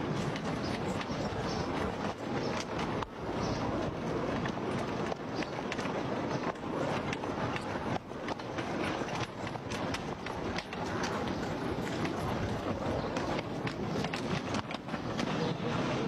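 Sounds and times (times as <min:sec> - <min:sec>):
wheels rattling on rails: 0:00.0 - 0:16.0.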